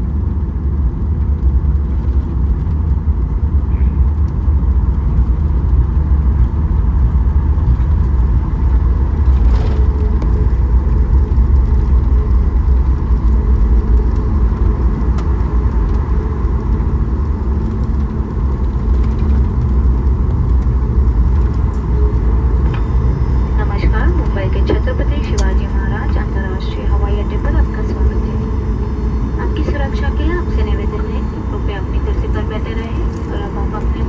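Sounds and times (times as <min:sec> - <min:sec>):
airplane cabin rumble: 0:00.0 - 0:34.0
faint engine hum: 0:00.0 - 0:34.0.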